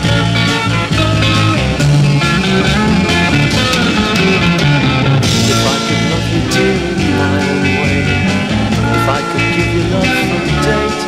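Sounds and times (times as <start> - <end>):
bass: 0.0 - 11.0
drums: 0.0 - 11.0
electric guitar: 0.0 - 11.0.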